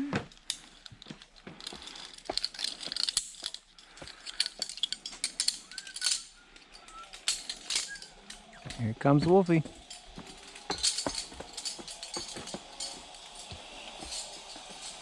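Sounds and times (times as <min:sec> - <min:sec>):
metal zipline gear clicking: 0:01.6 - 0:15.0.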